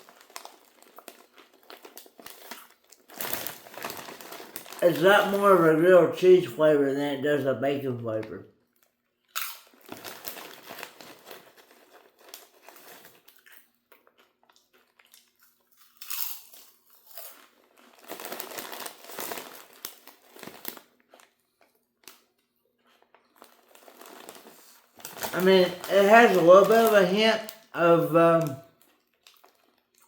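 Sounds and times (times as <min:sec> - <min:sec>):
chip bag crinkling: 0:00.0 - 0:05.8, 0:08.8 - 0:30.0.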